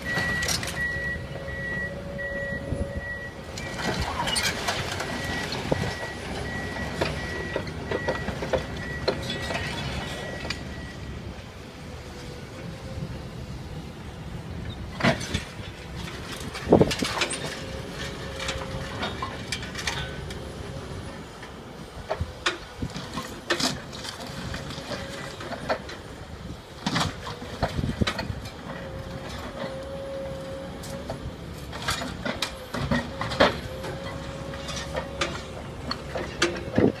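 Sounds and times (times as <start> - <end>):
diesel engine rumble: 0.0 - 37.0.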